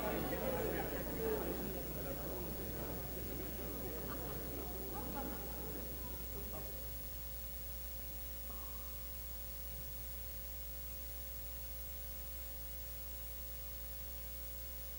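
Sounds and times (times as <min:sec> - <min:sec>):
low electrical hum: 0:00.0 - 0:14.9.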